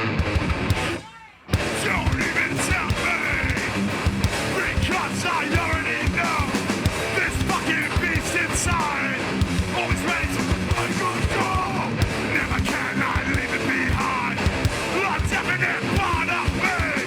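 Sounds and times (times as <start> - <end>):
distorted electric guitars: 0.0 - 17.0
fast hard-hitting drums: 0.0 - 17.0.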